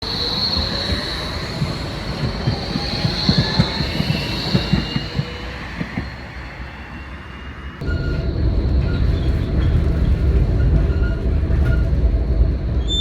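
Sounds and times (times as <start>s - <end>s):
tram wheel squeal: 0.0s - 13.0s.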